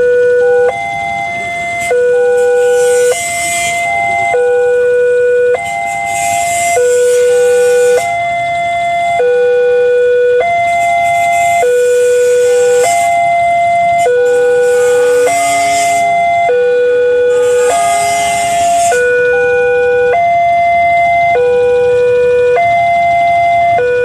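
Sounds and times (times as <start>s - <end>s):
two-tone level crossing alarm: 0.0s - 24.0s.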